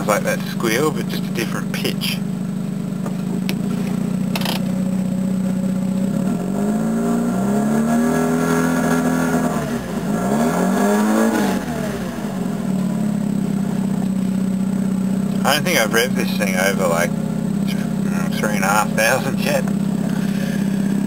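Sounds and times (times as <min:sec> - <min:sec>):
rotary engine idling and revving: 0:00.0 - 0:21.0.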